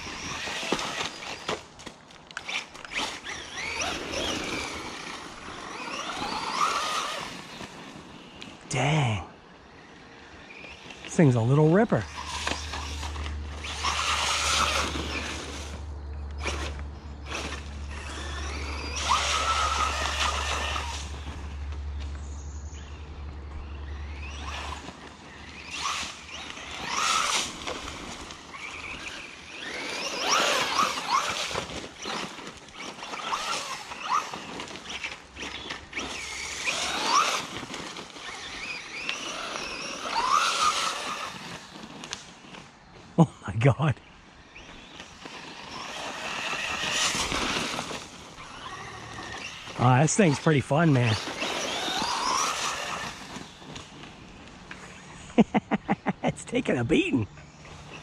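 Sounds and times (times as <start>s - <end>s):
rc car motor whine: 0.0s - 43.2s, 44.0s - 58.0s
tyre noise on dirt: 0.0s - 56.4s.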